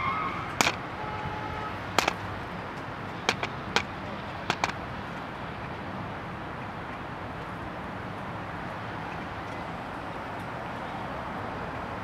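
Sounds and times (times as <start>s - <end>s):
urban street background hum: 0.0s - 12.0s.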